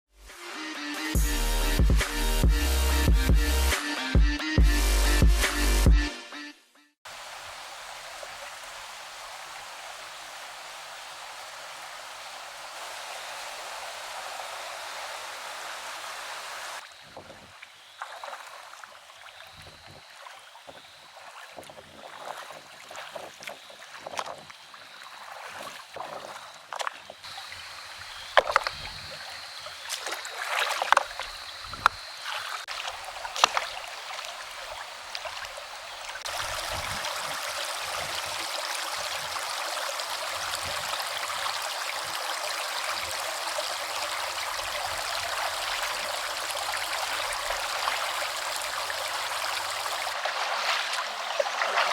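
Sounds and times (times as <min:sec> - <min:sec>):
splashing in shallow water: 0:07.1 - 0:51.9
stream water running: 0:07.1 - 0:51.9.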